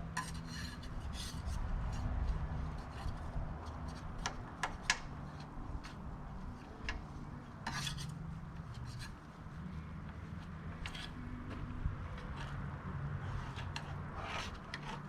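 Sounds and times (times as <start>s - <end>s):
hand tools scraping metal: 0.2s - 9.2s, 10.7s - 15.0s.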